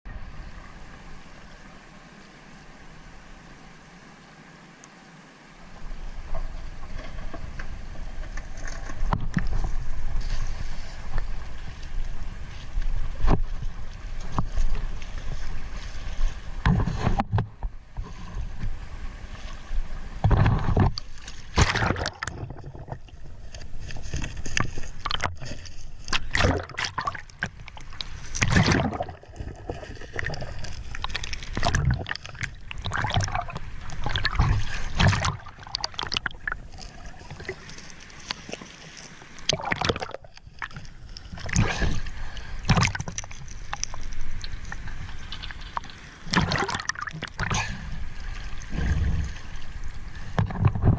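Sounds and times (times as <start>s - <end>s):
water sloshing around boat: 5.6s - 50.9s.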